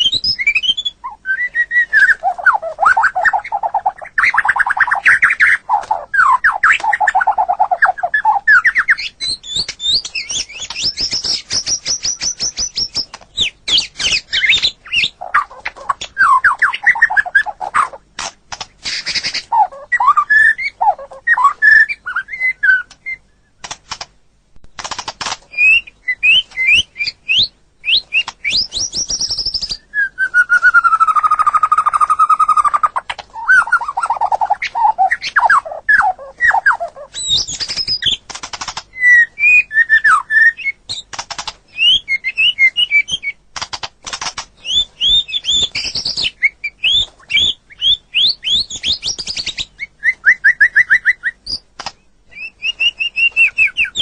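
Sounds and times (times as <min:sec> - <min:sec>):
songbird singing varied song: 0:00.0 - 0:18.0, 0:18.6 - 0:23.6, 0:25.5 - 0:43.7, 0:44.3 - 0:54.0.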